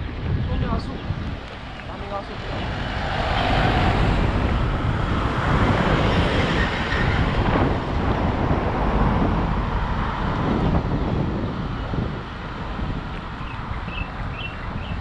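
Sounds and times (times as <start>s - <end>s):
low rumble: 0.0s - 13.8s
road noise: 0.0s - 15.0s
rushing wind: 0.0s - 15.0s.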